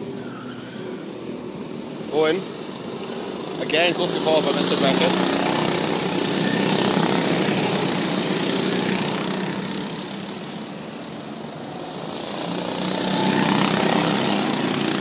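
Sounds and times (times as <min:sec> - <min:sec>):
go-kart engines buzzing past: 0:00.0 - 0:15.0.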